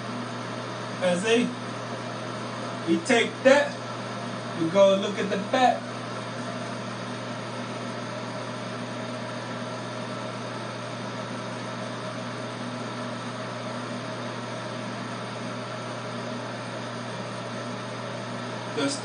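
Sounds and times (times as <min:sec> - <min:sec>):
electric hair clippers humming: 0:00.0 - 0:19.0.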